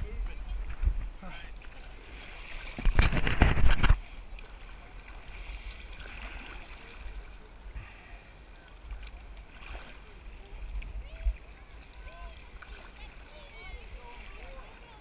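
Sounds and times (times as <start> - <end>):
ocean water lapping: 0.5 - 15.0.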